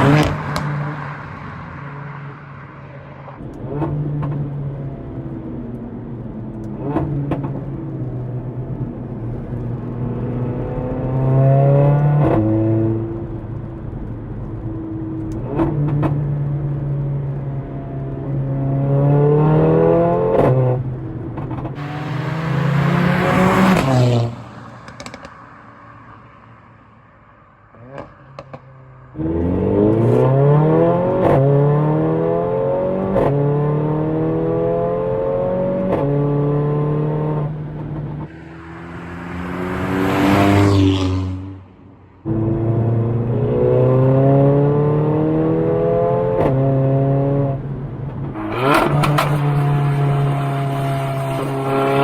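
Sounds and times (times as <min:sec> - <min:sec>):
car engine accelerating through gears: 0:00.0 - 0:02.6, 0:03.2 - 0:25.4, 0:27.8 - 0:52.0.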